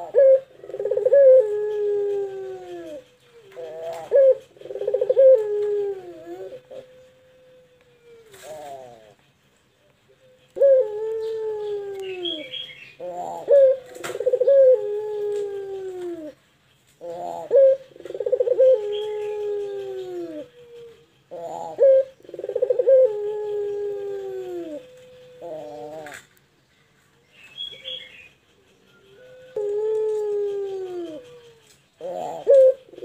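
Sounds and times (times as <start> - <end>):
dove cooing: 0.0 - 26.4, 27.5 - 33.0.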